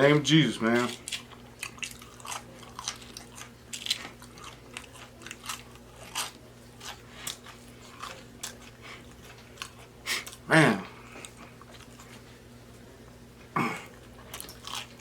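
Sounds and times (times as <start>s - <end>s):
person chewing sandwich: 0.8s - 15.0s.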